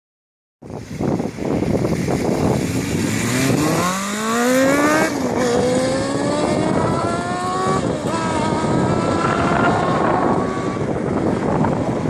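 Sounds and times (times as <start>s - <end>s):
motorcycle engine accelerating: 1.6s - 12.0s.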